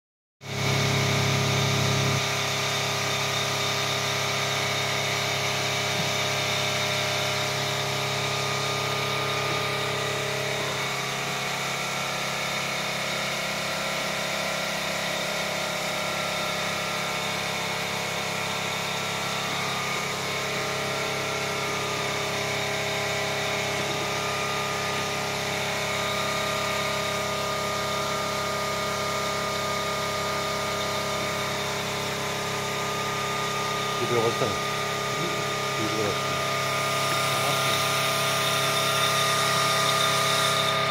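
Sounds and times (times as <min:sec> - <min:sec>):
metal lathe humming: 0:00.5 - 0:40.9.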